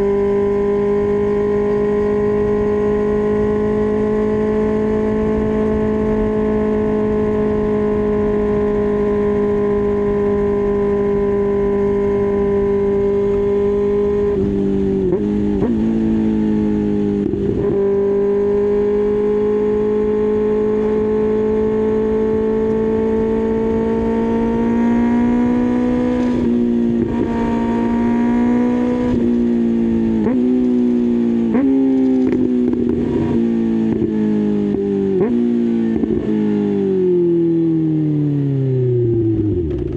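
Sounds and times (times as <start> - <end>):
engine pitch shifting through gears: 0.0 - 39.9
motorcycle engine revving high: 0.0 - 39.9.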